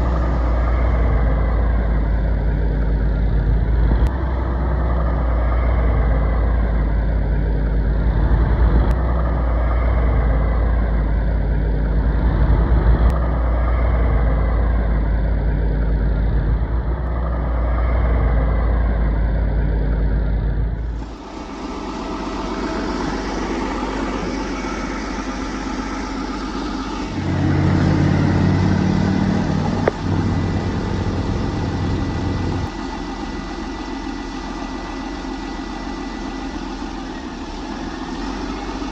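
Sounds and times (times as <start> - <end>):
deeper hum: 0.0 - 38.9
engine-like rumble: 0.0 - 38.9.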